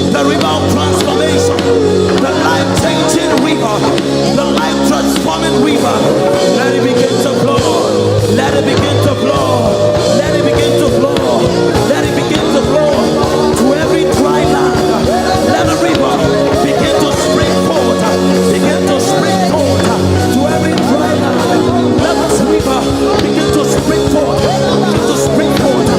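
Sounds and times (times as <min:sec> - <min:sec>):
drum beat: 0:00.0 - 0:25.9
keyboard chords: 0:00.0 - 0:25.9
person singing: 0:00.0 - 0:25.9.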